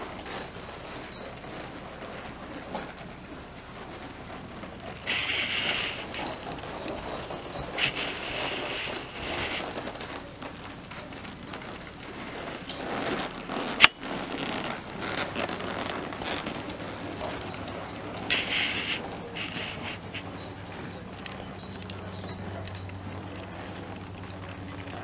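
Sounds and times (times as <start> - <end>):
hoofbeats on soft dirt: 0.0 - 25.0.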